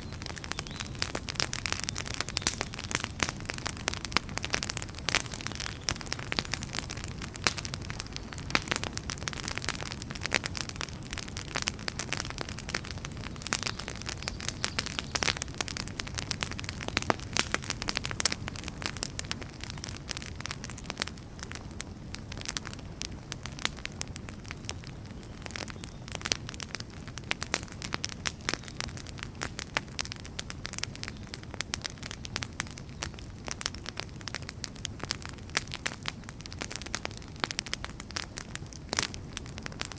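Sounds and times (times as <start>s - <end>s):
low rumble of burning logs: 0.0s - 39.9s
wood fire crackling: 0.0s - 39.9s.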